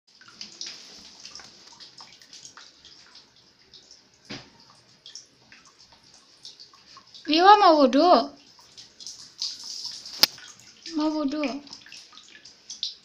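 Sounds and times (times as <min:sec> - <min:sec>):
water running and splashing: 0:00.1 - 0:13.0.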